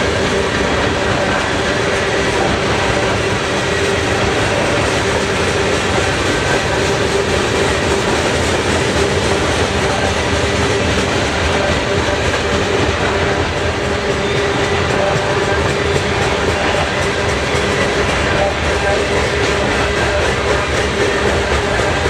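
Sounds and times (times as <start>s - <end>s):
freight train wheels rolling: 0.0s - 22.0s.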